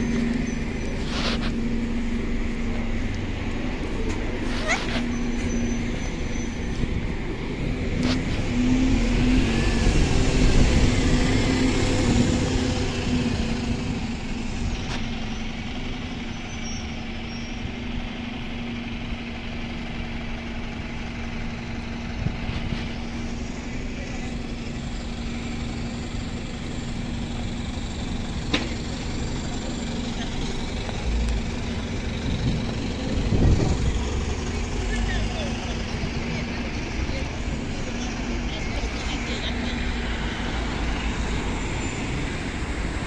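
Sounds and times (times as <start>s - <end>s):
bus exhaust droning: 0.0s - 43.0s
traffic noise: 0.0s - 43.0s.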